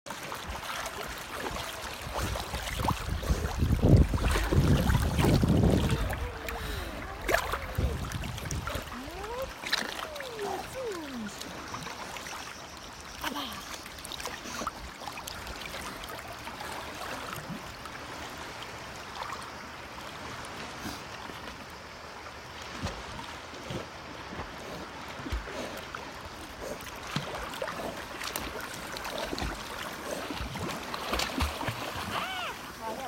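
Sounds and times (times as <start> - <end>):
sea water washing and splashing: 0.1 - 33.0.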